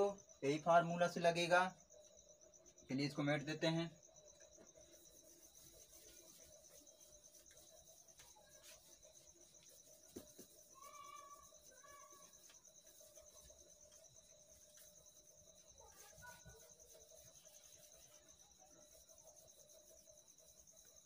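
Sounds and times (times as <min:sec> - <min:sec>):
cricket trilling: 0:00.0 - 0:21.0.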